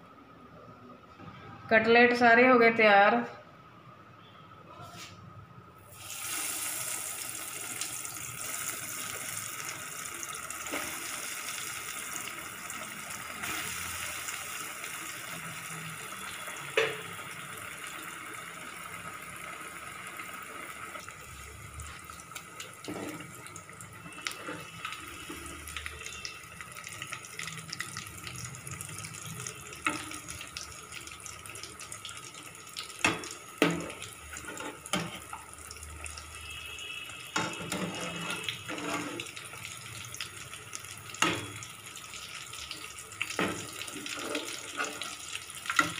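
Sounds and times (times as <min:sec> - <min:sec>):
food deep-frying in oil: 0:05.8 - 0:45.9.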